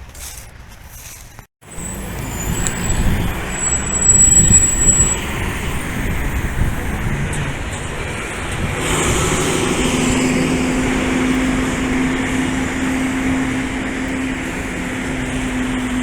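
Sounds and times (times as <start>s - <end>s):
vehicle noise with low hum: 0.0s - 16.0s.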